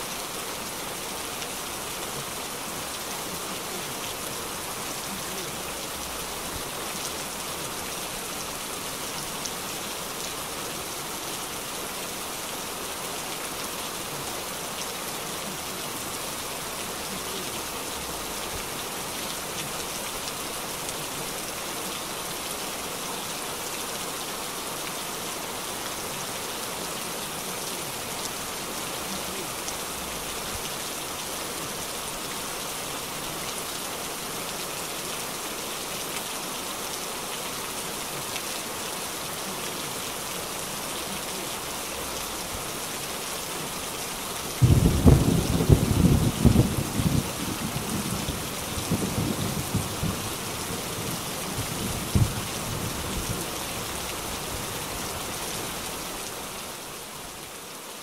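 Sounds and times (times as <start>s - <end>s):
heavy rain on street: 0.0s - 58.0s.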